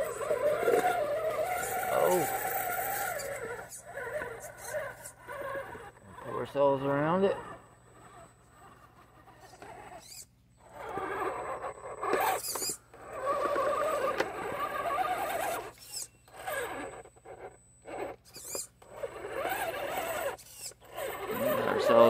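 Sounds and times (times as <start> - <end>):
electric motor and gears whining: 0.0 - 22.0.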